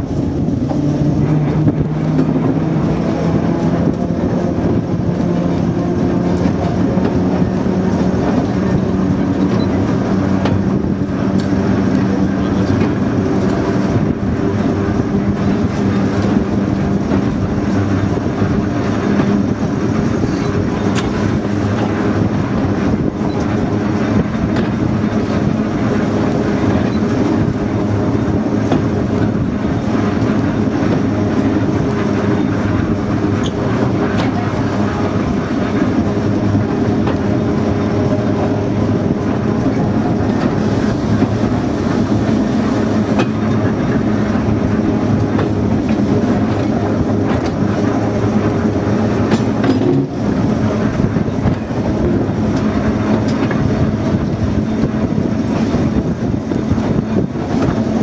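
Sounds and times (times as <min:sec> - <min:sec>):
diesel locomotive engine hum: 0:00.0 - 0:58.0
rumble of rolling brake van: 0:00.0 - 0:58.0.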